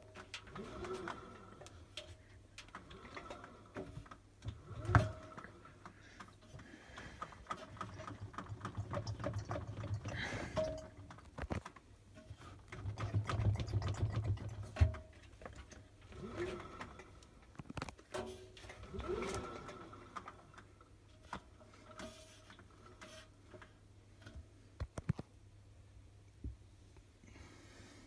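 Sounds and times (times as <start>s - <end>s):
small rattles and clicks: 0.0s - 25.4s.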